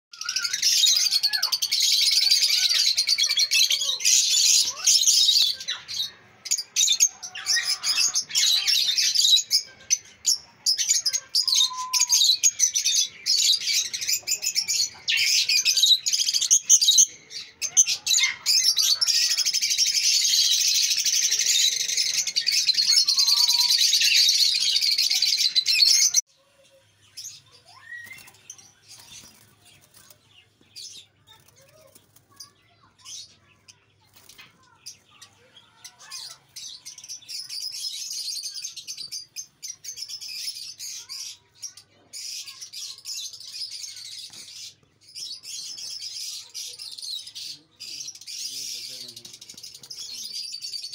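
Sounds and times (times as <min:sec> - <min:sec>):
lovebirds chirping: 0:00.1 - 0:50.9.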